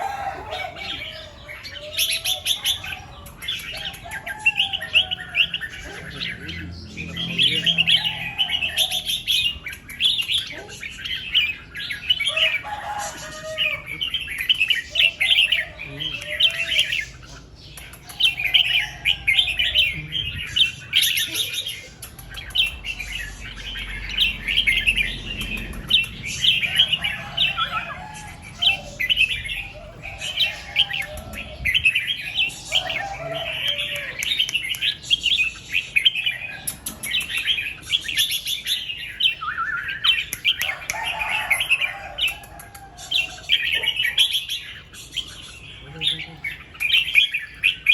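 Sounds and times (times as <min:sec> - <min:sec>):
bulbuls singing warbled phrases: 0:00.0 - 0:47.9.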